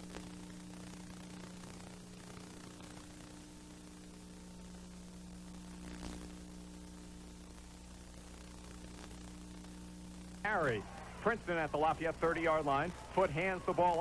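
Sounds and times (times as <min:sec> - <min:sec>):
videotape hiss and hum: 0:00.0 - 0:14.0.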